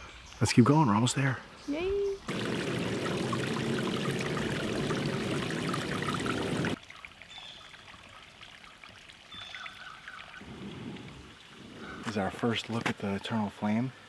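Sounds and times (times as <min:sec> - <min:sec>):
creek water splashing: 0:02.3 - 0:13.7.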